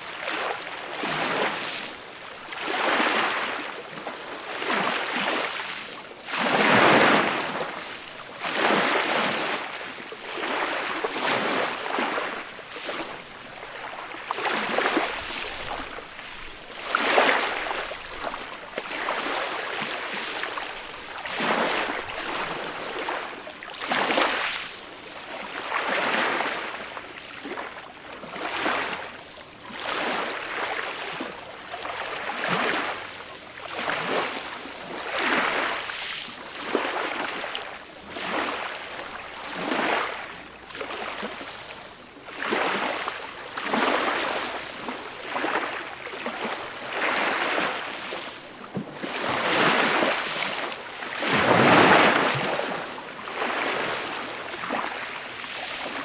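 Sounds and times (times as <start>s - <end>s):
gentle waves washing onto beach: 0.0s - 56.0s.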